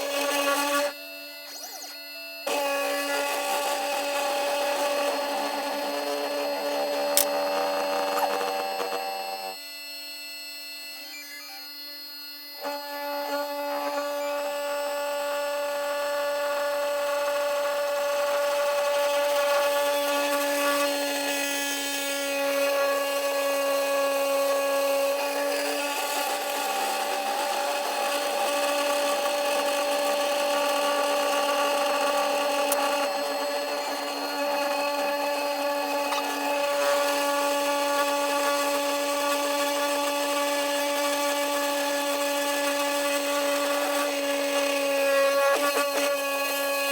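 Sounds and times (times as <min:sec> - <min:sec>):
grinding metal cutting: 0:00.0 - 0:09.6, 0:10.4 - 0:46.9
spindle motor whining: 0:00.0 - 0:46.9.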